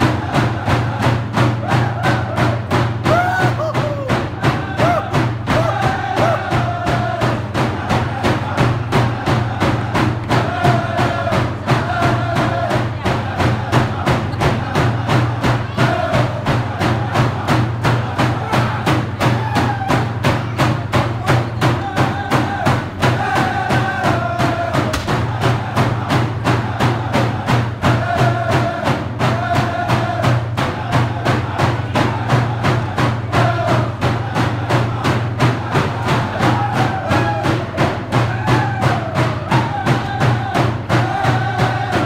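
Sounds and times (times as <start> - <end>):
hand drums beating: 0.0 - 42.0
voices singing: 0.0 - 42.0.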